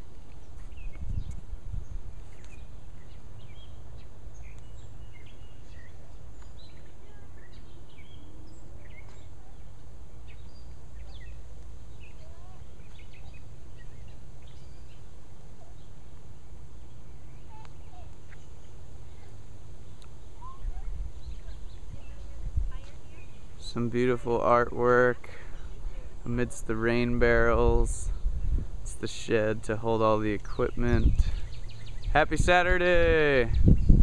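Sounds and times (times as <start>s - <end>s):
birds chirping and calling: 0.0s - 34.0s.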